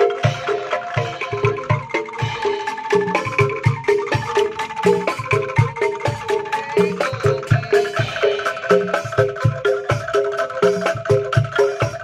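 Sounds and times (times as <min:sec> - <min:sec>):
struck-note tune over a beat: 0:00.0 - 0:12.0.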